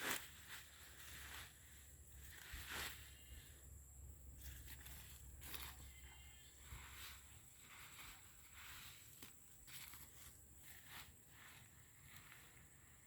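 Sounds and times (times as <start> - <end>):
faint soft rustles: 0.0 - 3.7, 4.3 - 13.0.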